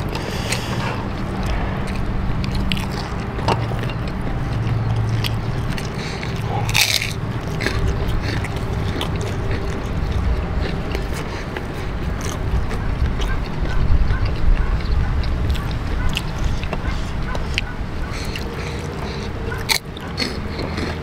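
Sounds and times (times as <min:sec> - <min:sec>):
low rumble: 0:00.0 - 0:18.6
crunchy crackers being chewed: 0:00.0 - 0:21.0.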